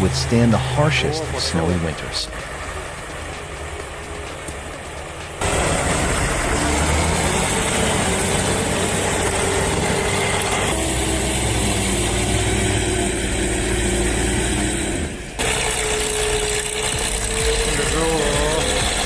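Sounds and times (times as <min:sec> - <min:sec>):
heavy vehicle engine running: 0:00.0 - 0:19.0.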